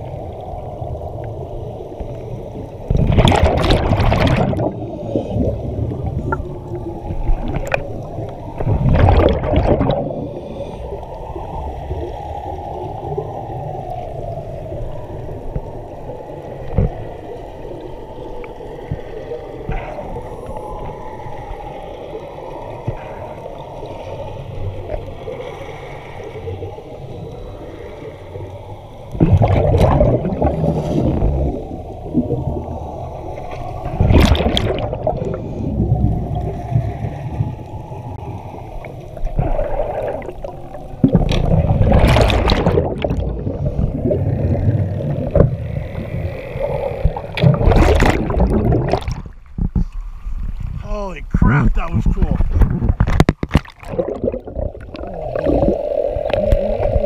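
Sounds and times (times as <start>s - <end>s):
low underwater rumble: 0.0s - 25.6s, 26.5s - 57.0s
rushes of bubbles underwater: 0.0s - 57.0s.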